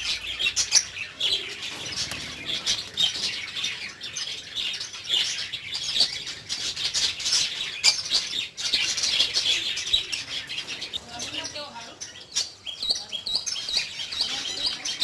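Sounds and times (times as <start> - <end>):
lovebirds chirping and chattering: 0.0 - 15.0.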